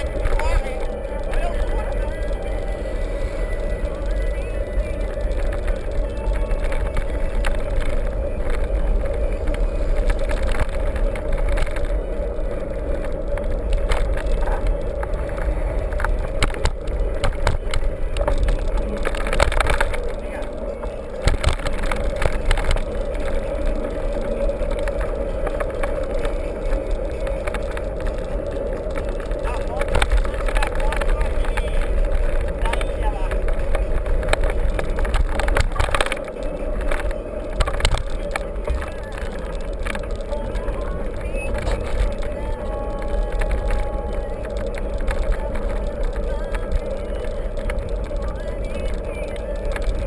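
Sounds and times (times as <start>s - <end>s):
bike rattling and knocking: 0.0s - 50.0s
wind rumble on microphone: 0.0s - 50.0s.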